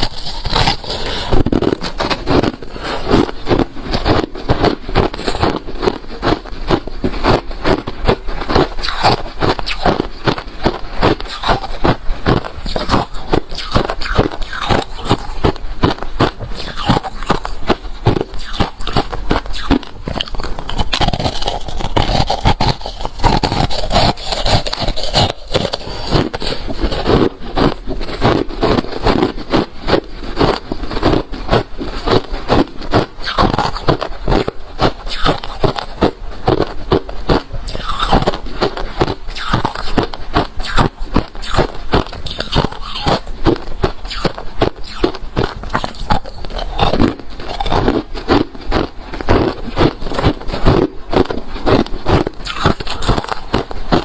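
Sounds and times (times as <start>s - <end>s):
chewing and crunching ice: 0.0s - 54.0s
scraping sounds: 0.0s - 54.0s.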